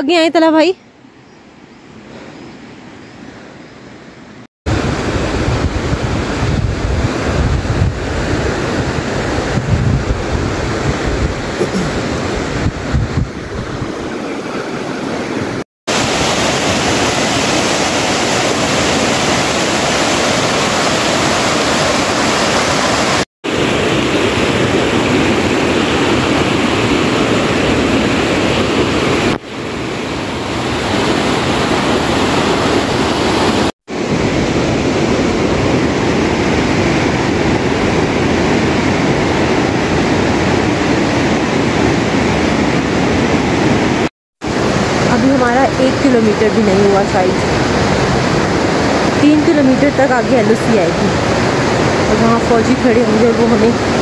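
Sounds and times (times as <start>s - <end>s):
fast-flowing mountain water: 4.7s - 54.0s.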